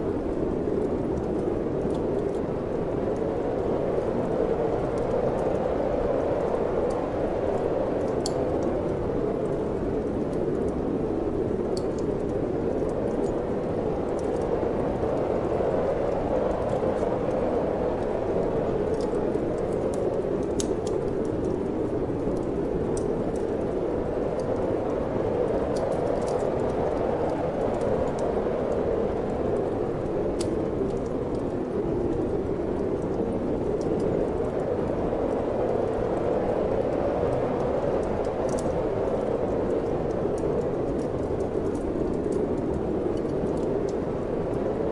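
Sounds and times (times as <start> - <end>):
rushing wind: 0.0 - 44.9
wood fire crackling: 0.1 - 44.9.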